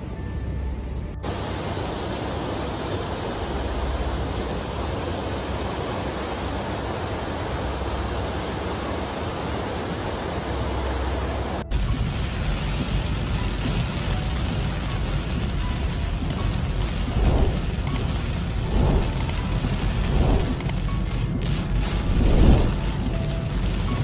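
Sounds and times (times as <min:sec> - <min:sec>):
torrential water rushing: 0:01.2 - 0:24.0.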